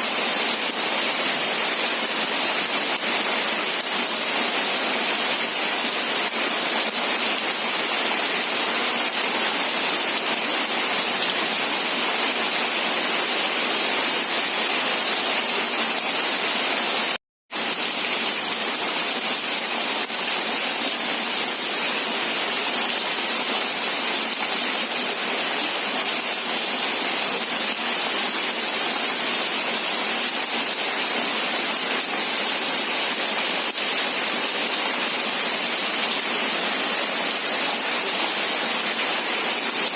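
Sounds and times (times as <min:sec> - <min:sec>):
heavy rain hissing: 0:00.0 - 0:16.9, 0:23.7 - 0:39.9.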